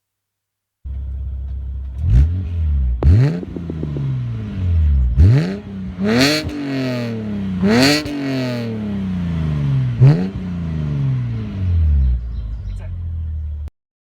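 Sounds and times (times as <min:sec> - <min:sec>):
car engine idling and revving: 0:00.9 - 0:13.7.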